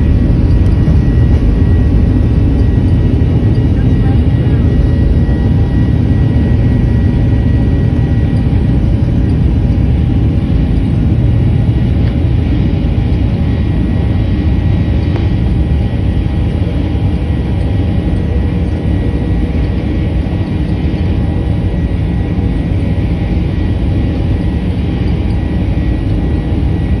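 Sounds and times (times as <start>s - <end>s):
jet engines rumbling at takeoff: 0.0s - 27.0s.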